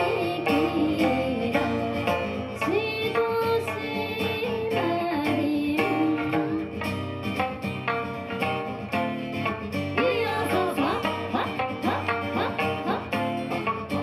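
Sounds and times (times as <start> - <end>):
plucked lute notes: 0.0 - 14.0
woman singing a folk song: 0.0 - 14.0.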